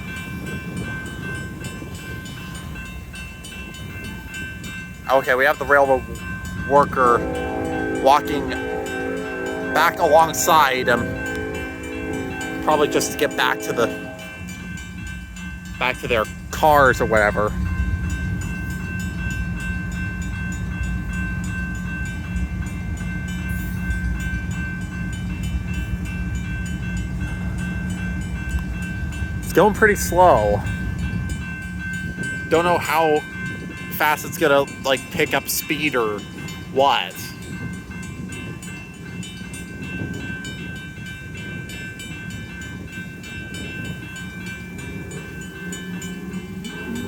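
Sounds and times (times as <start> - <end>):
electronic warning bell: 0.0 - 47.0
freight train rumbling: 0.0 - 47.0
mechanical warning bell: 0.0 - 47.0.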